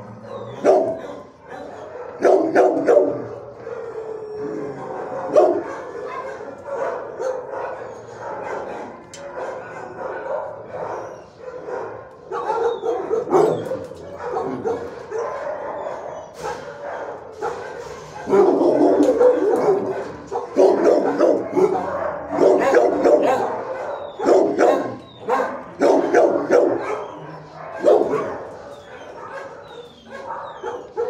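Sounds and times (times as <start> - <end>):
dogs barking and yipping: 0.0 - 31.0.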